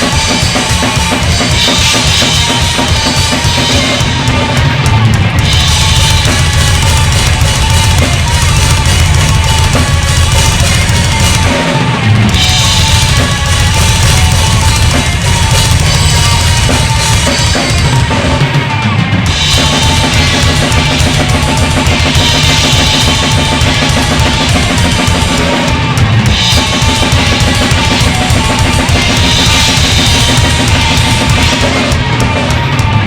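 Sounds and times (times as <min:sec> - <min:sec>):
bass drum and snare: 0:00.0 - 0:33.0
cymbals: 0:00.0 - 0:33.0
heavy rock band playing: 0:00.0 - 0:33.0.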